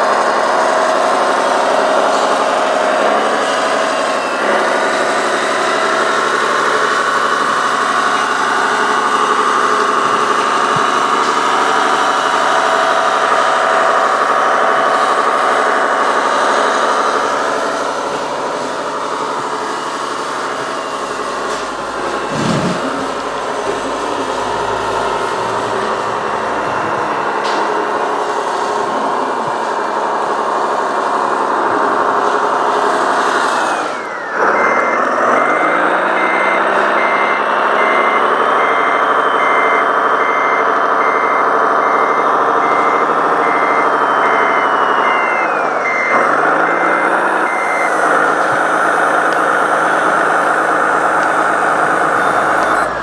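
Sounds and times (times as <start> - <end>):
reversing beeper: 0.0 - 53.0
simulated diesel engine: 0.0 - 53.0.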